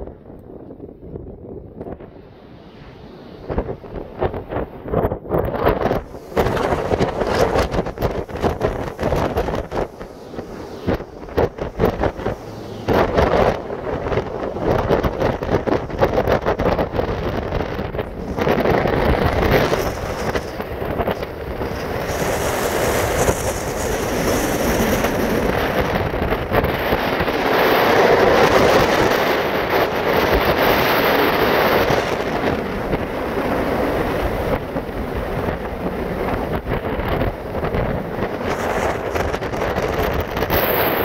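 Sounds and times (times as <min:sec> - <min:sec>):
strong wind buffeting microphone: 0:00.0 - 0:41.0.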